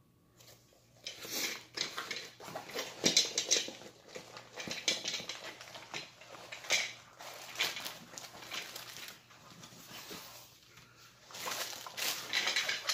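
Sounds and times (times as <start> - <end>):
paper and film rustling: 1.2 - 12.9.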